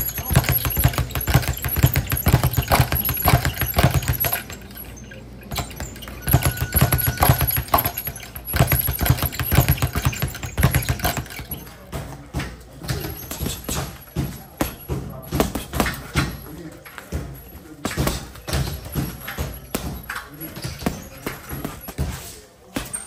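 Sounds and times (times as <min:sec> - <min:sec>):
punches thudding on heavy bag: 0:00.0 - 0:04.7, 0:05.5 - 0:23.0
speed bag rattling: 0:00.0 - 0:12.0, 0:12.8 - 0:22.1.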